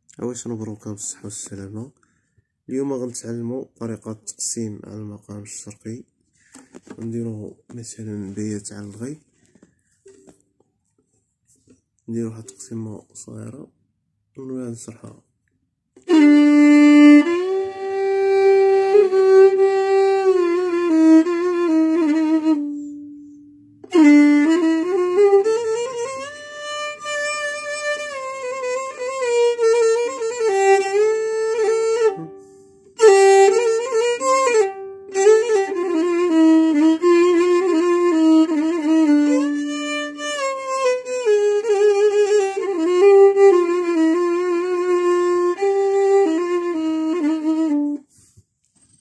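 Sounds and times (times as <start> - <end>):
solo violin improvising: 0.4 - 3.6, 6.3 - 10.4, 16.0 - 49.0.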